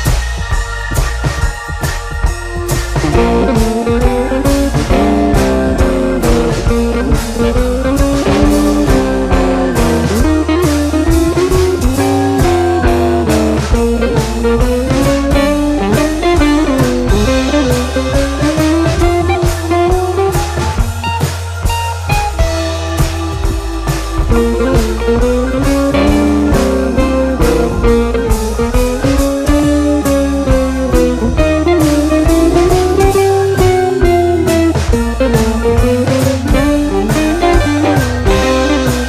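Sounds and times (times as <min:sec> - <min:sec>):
blues guitar with bass and drums: 0:00.0 - 0:39.0.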